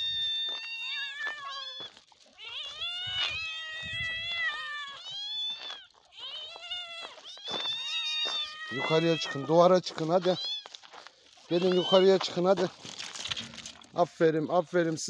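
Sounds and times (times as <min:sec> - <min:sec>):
young cats meowing: 0:00.0 - 0:12.6.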